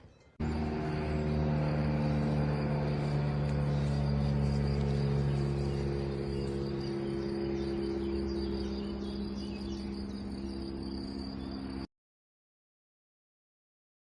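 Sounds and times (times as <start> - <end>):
low droning hum: 0.0 - 11.9
insects chirring: 0.5 - 11.9.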